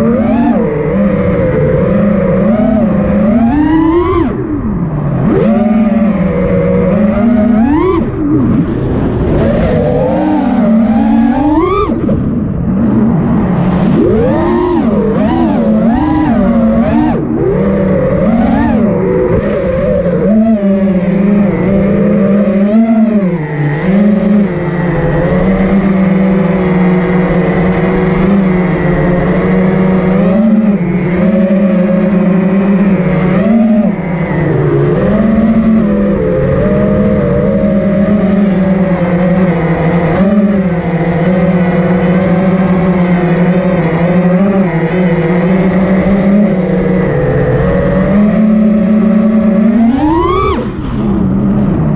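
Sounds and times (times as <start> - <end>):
quadcopter motors whining: 0.0 - 51.9.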